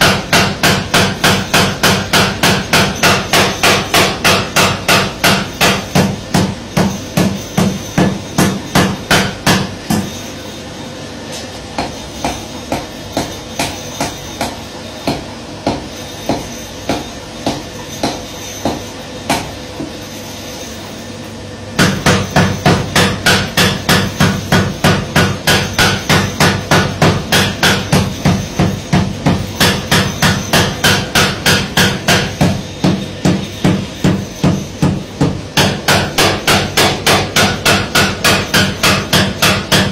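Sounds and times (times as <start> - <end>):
power hammer pounding iron: 0.0 - 10.3, 11.8 - 19.9, 21.8 - 39.9.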